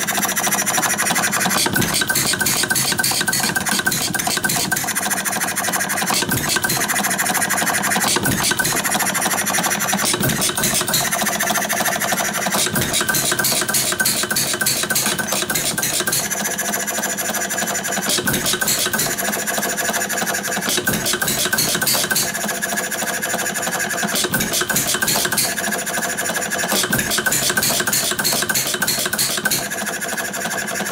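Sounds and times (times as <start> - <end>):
valve gear clatter: 0.0 - 22.7, 24.1 - 30.9.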